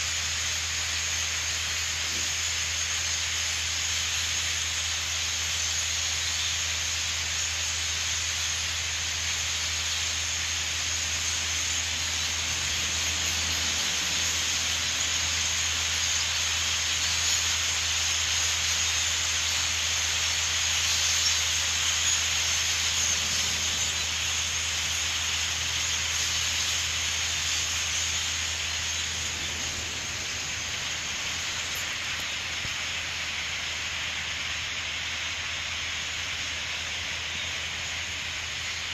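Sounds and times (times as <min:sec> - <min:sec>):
flock of starlings chattering: 0:00.0 - 0:38.9.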